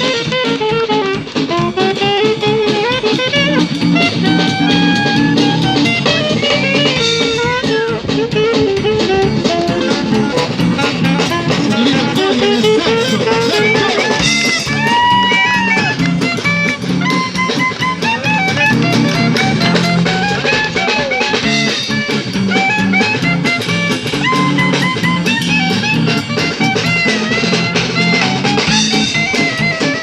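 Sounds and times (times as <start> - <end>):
drum kit steady beat: 0.0 - 30.0
guitar: 0.0 - 30.0
lead melody: 0.0 - 30.0.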